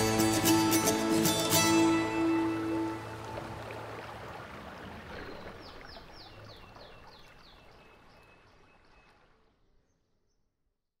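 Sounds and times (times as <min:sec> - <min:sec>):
rushing river water: 0:00.0 - 0:09.5.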